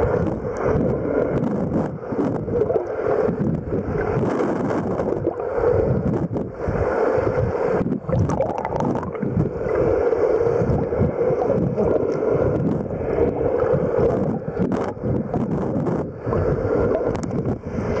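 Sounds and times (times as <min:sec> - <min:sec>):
streams of air bubbles: 0:00.0 - 0:18.0
underwater rushing and bubbling: 0:00.0 - 0:18.0.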